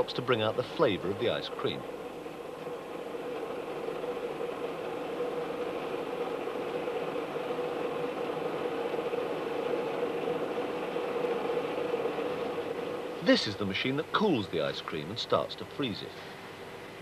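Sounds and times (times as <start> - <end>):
factory machinery humming: 0.0 - 17.0.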